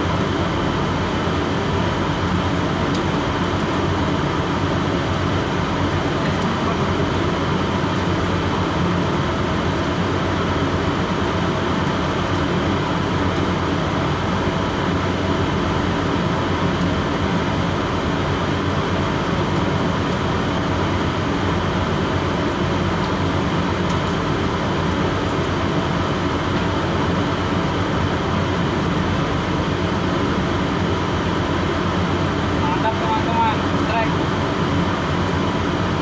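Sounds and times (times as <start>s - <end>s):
ship engine droning: 0.0s - 36.0s.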